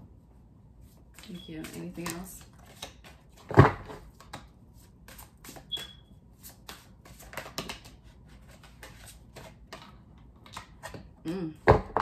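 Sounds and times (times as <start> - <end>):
cards being shuffled: 0.8 - 11.0.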